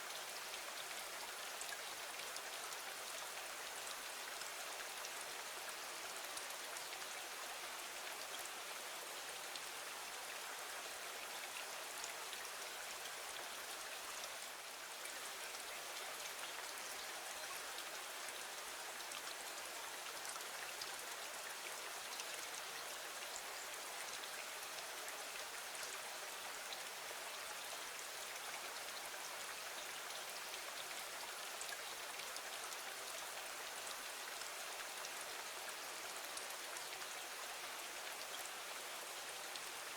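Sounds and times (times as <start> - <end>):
gentle rain on a window: 0.0 - 39.9.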